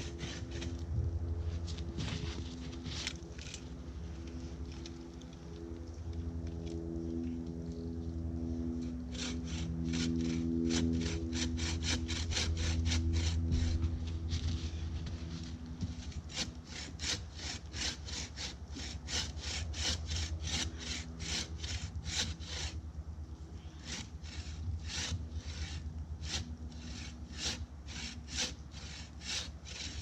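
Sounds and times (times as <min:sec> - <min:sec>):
bow saw cutting wood: 0:00.0 - 0:00.9, 0:01.6 - 0:05.0, 0:08.8 - 0:22.9, 0:23.6 - 0:30.0.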